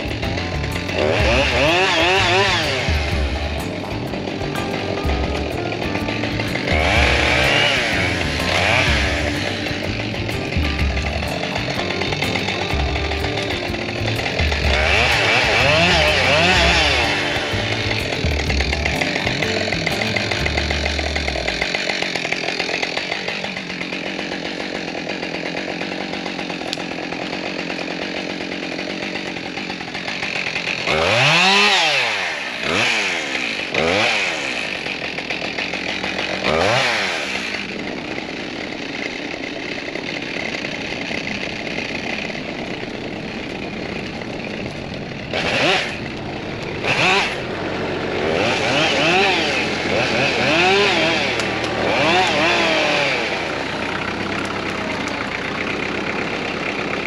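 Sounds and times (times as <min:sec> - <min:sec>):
chainsaw cutting wood: 0:00.0 - 0:57.0
chainsaw revving: 0:00.0 - 0:57.0.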